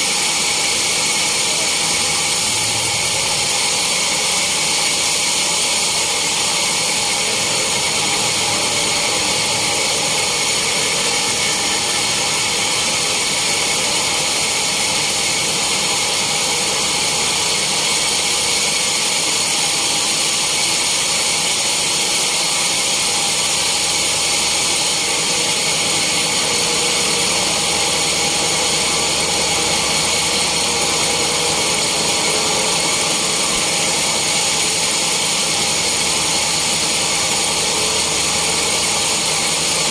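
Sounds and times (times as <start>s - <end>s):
saw cutting log: 0.0s - 39.9s.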